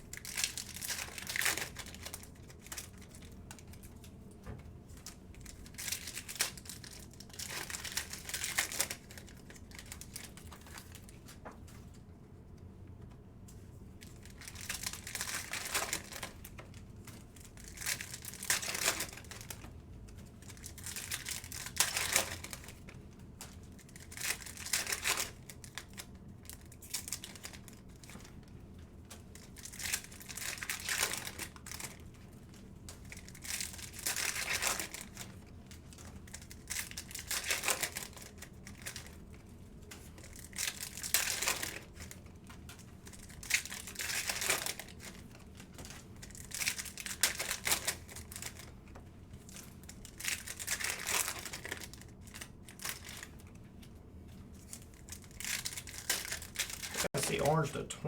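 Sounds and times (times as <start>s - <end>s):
foil wrappers crinkling and tearing: 0.0s - 4.1s, 4.9s - 12.0s, 14.0s - 57.7s.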